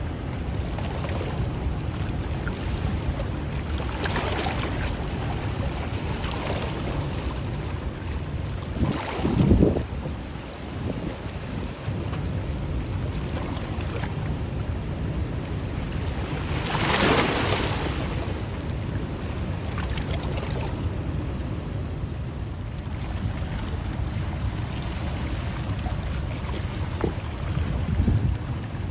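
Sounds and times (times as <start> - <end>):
rushing water: 0.0 - 28.9
wind rumbling on microphone: 0.0 - 28.9.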